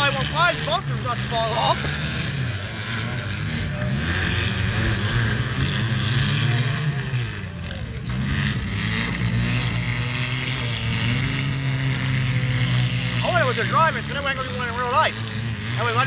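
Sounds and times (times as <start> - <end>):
car engines running: 0.0 - 16.0.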